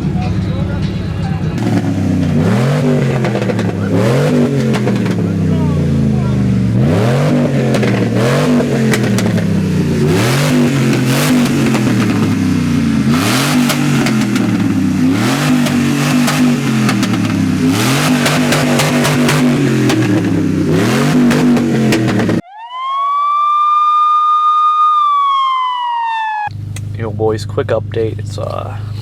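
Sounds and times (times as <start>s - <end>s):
car engine revving: 0.0s - 22.4s, 26.5s - 29.0s
sharp exhaust crackles: 0.0s - 22.4s, 26.5s - 29.0s.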